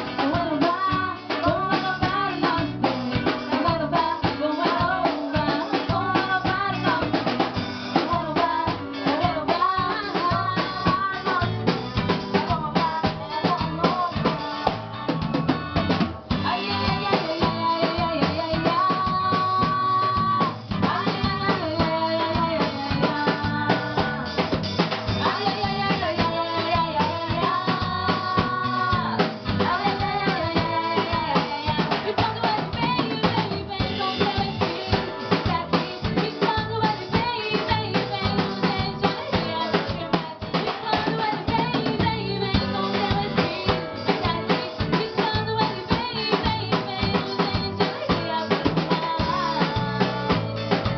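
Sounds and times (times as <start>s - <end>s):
band playing carnival music: 0.0s - 50.9s
drum kit beat: 0.0s - 50.9s.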